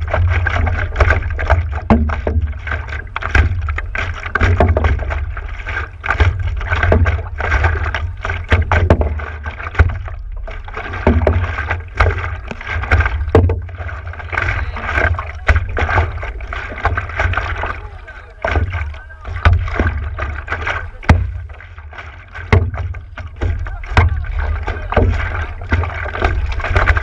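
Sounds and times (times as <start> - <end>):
steady low rumble: 0.0 - 27.0
water slapping against board: 0.0 - 27.0.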